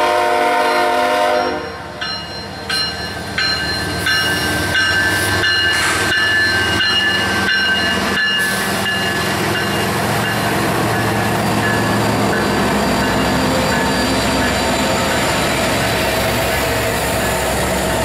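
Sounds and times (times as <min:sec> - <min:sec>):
locomotive engines rumbling: 0:00.0 - 0:18.0.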